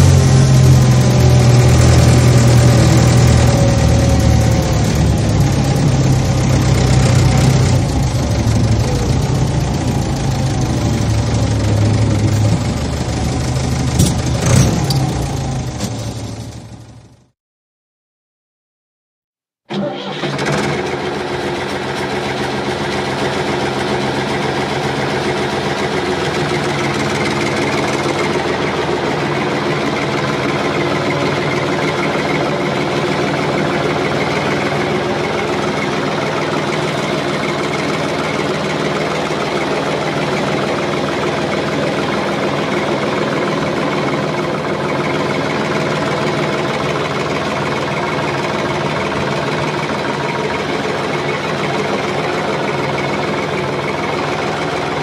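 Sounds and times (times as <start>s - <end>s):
tractor diesel engine running: 0.0s - 17.3s, 19.7s - 55.0s.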